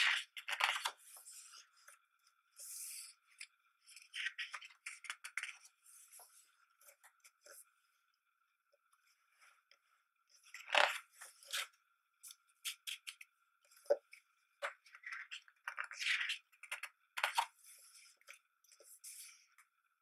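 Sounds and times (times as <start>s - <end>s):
book pages being turned: 0.0s - 7.7s, 9.0s - 19.6s.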